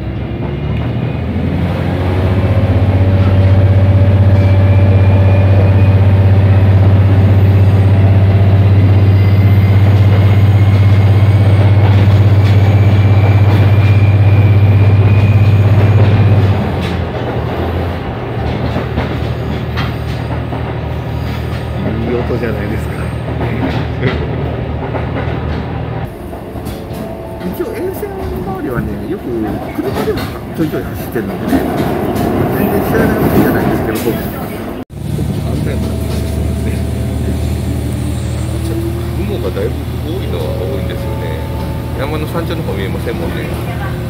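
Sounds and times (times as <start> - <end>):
diesel engine drone: 0.0 - 18.4, 25.8 - 44.0
train wheels rumbling on rails: 0.0 - 44.0.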